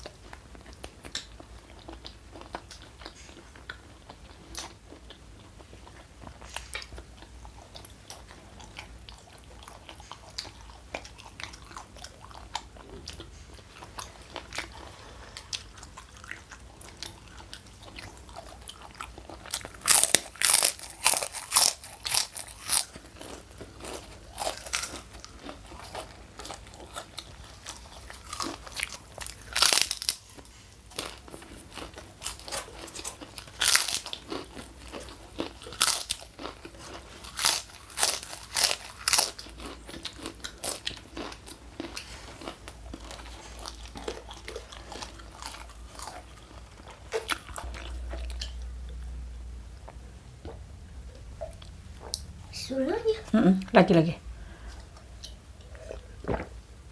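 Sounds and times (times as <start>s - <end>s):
crunching crackers: 0.0s - 48.6s
quiet chewing: 0.0s - 52.6s.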